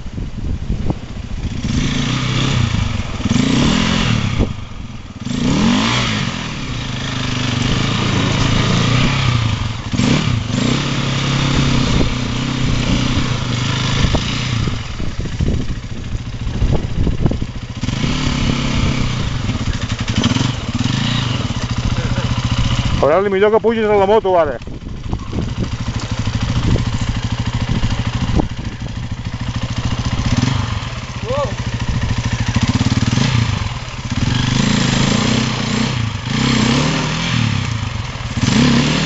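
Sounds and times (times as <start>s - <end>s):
dirt bike engine revving: 1.4s - 39.0s.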